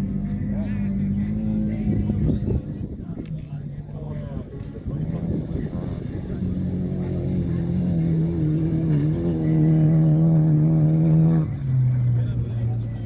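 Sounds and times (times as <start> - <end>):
race car engine at high revs: 0.0 - 3.0, 4.2 - 13.0.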